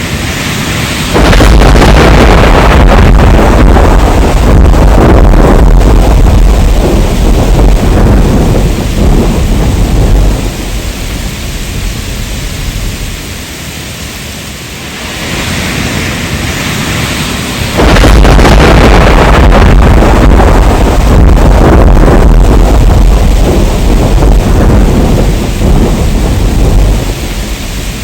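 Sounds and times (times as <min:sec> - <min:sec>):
rolling thunder: 0:00.0 - 0:13.5, 0:14.9 - 0:28.0
heavy rain: 0:00.0 - 0:28.0.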